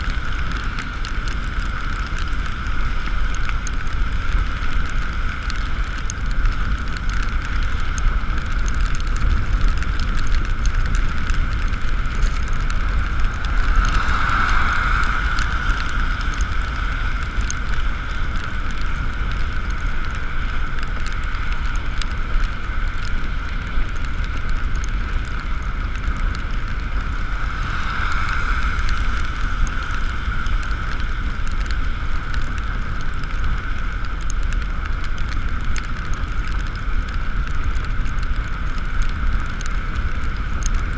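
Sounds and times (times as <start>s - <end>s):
wind and road rumble: 0.0s - 40.9s.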